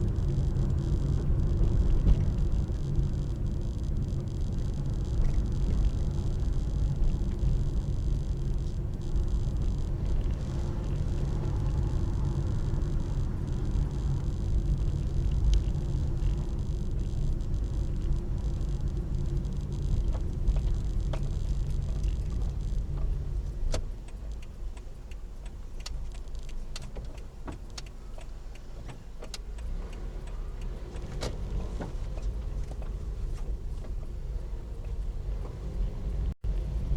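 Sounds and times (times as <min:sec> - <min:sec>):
car engine and road rumble: 0:00.0 - 0:36.9.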